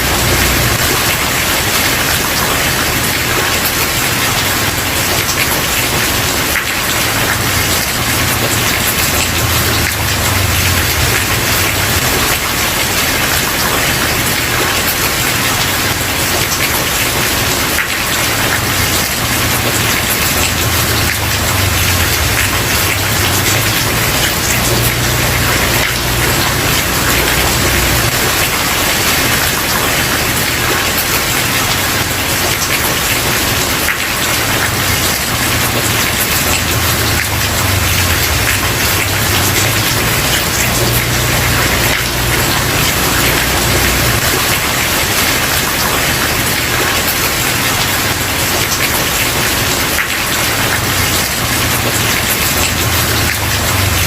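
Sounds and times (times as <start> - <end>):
heavy rain on wooden porch: 0.0 - 54.0.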